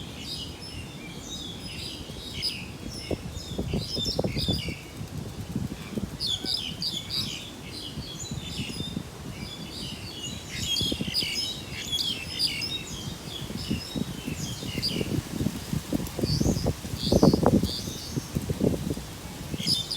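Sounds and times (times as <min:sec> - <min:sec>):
small birds chirping: 0:00.2 - 0:19.9.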